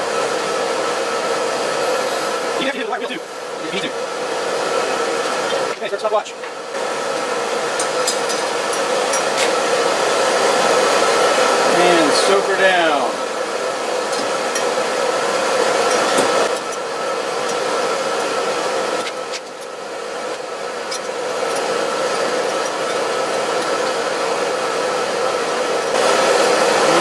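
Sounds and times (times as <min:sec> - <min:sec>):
electric appliance blowing and humming: 0:00.0 - 0:27.0.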